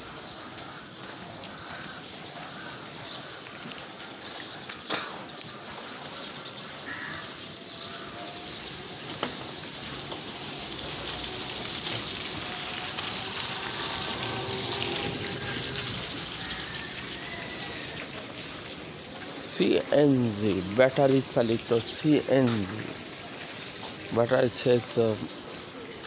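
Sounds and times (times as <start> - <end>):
rain falling on wet street: 0.0 - 26.0.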